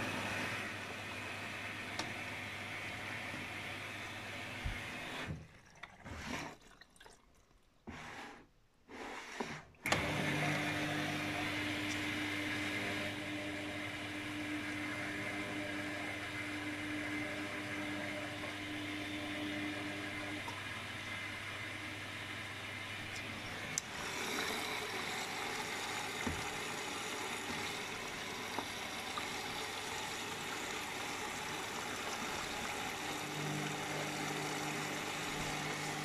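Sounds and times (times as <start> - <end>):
washing machine water rushing: 0.0 - 7.4, 9.8 - 36.0.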